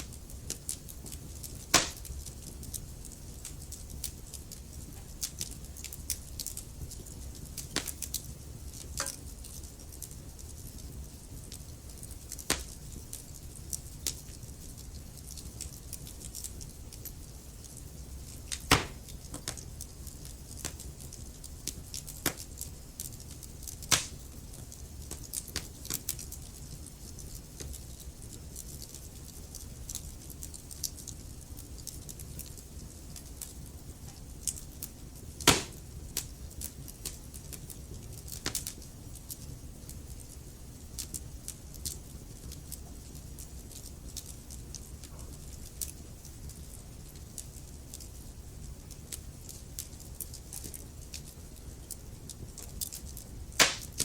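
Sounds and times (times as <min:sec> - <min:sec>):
fire popping: 0:00.0 - 0:54.0
low rumble of flames: 0:00.0 - 0:54.0
wood fire crackling: 0:00.0 - 0:54.0.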